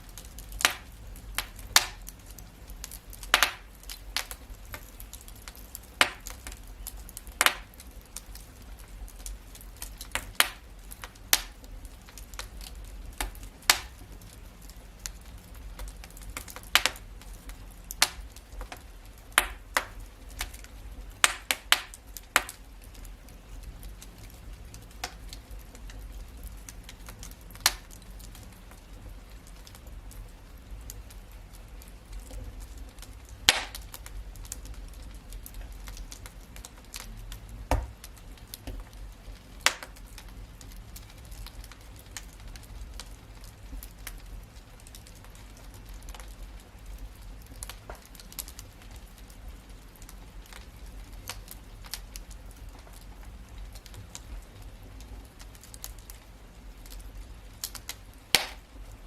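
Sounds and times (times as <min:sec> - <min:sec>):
fire crackling and popping: 0:00.0 - 0:59.0
low fire rumble: 0:00.0 - 0:59.0.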